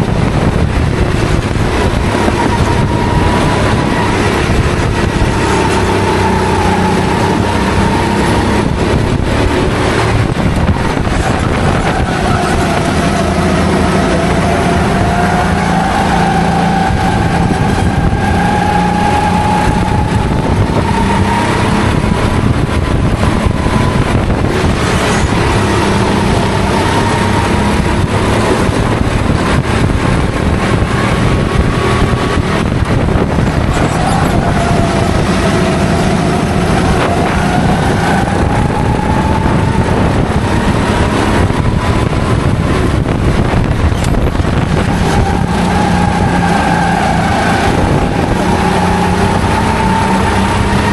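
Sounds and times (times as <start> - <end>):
kart engine running hard: 0.0 - 50.9.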